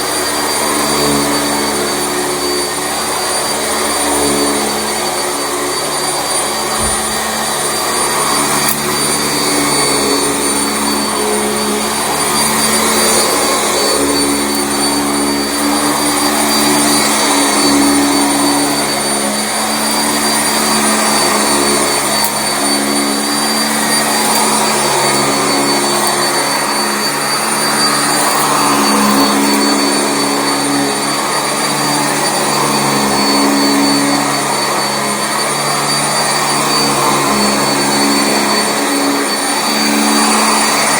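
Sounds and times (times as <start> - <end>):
upright vacuum running: 0.0 - 40.9.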